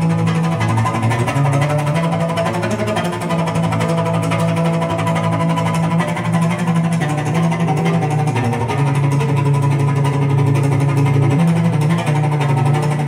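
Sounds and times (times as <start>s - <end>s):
cello music over loudspeakers: 0.0s - 13.0s.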